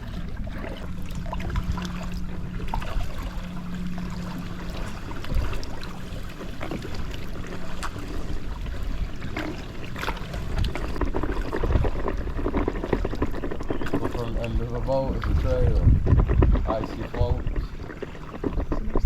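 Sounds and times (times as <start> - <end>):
paddle strokes and water splashing: 0.0 - 19.0
steady low hum: 0.0 - 19.0
wind rumble on microphone: 0.0 - 19.0.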